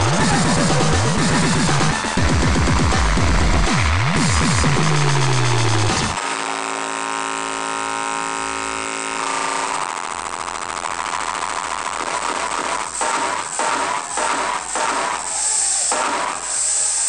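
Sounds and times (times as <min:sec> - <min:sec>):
fast low pulsing beat: 0:00.0 - 0:06.6, 0:07.4 - 0:17.0
buzzing synth drone: 0:00.0 - 0:17.0.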